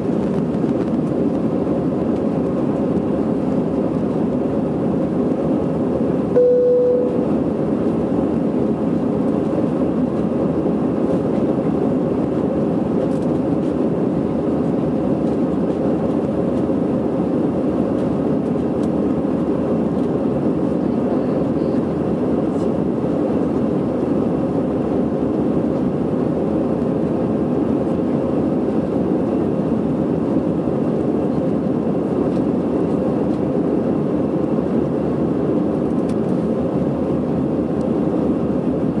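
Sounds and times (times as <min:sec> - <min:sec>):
airplane cabin engine noise: 0:00.0 - 0:39.0.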